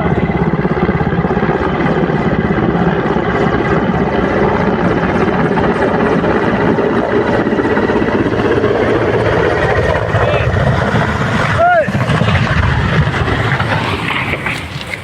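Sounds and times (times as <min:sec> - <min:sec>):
helicopter rotor beating: 0:00.0 - 0:15.0.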